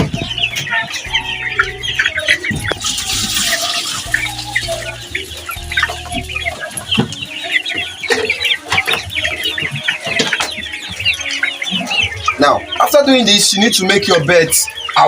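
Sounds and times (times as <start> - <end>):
chickens clucking and peeping: 0.0 - 15.0.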